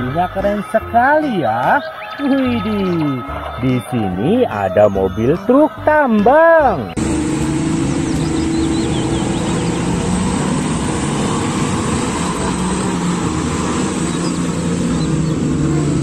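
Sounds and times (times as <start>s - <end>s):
diesel truck engine droning: 0.0s - 16.0s
tyre and road noise: 0.0s - 16.0s.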